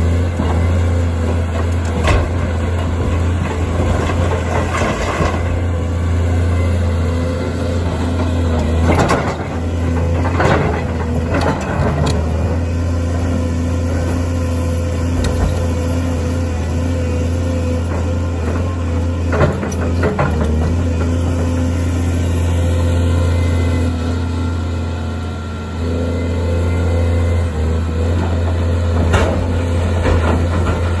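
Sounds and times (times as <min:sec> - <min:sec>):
excavator diesel engine humming: 0:00.0 - 0:31.0.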